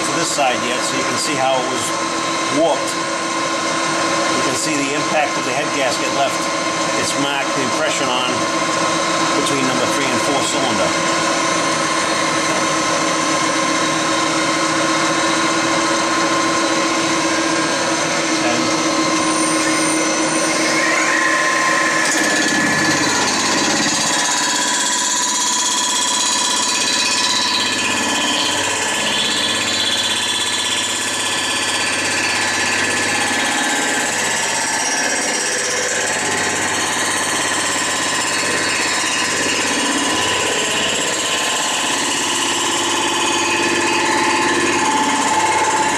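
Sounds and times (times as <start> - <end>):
milling machine whining: 0.0 - 45.9.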